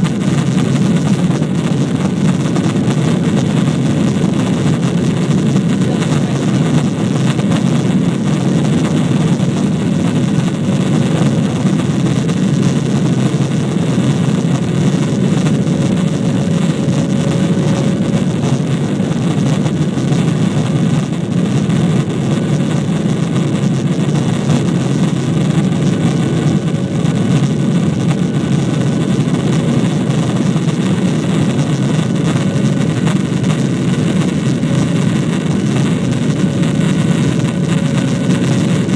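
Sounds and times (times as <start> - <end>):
jet engine cabin drone: 0.0 - 38.9.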